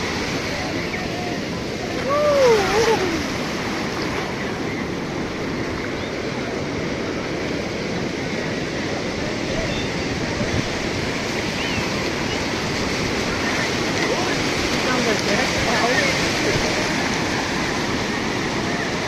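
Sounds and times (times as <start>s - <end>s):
surf breaking: 0.0s - 19.0s.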